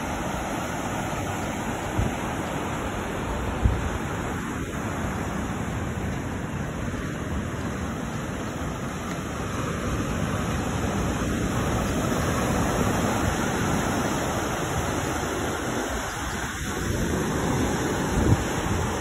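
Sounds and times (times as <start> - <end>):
ocean surf: 0.0 - 19.0
wind: 0.0 - 19.0.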